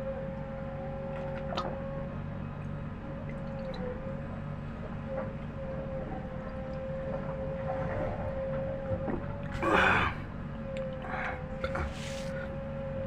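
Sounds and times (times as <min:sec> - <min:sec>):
low drone: 0:00.0 - 0:13.0
steady tonal hum: 0:00.0 - 0:13.0.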